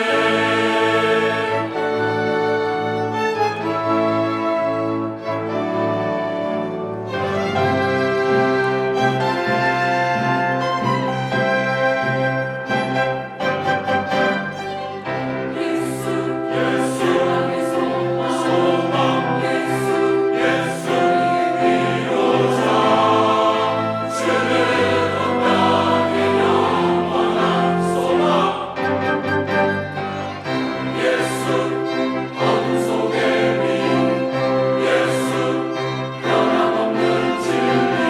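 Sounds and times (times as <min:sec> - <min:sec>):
choir singing: 0:00.0 - 0:38.0
orchestra playing: 0:00.0 - 0:38.0
piano and organ: 0:00.0 - 0:38.0.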